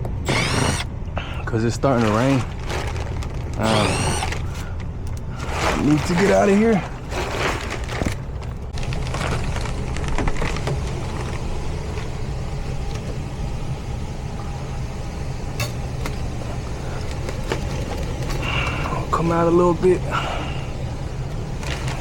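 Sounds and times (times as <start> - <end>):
hvac equipment humming: 0.0 - 22.0.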